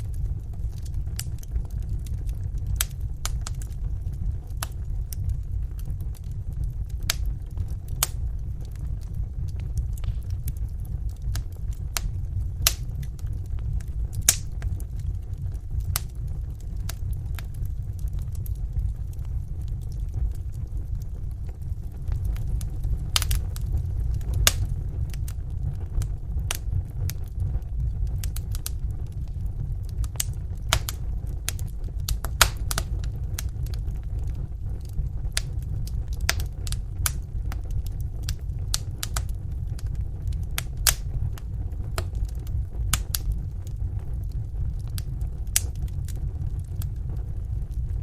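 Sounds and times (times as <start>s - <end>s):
fire rumbling: 0.0s - 48.0s
logs popping and crackling: 0.0s - 48.0s.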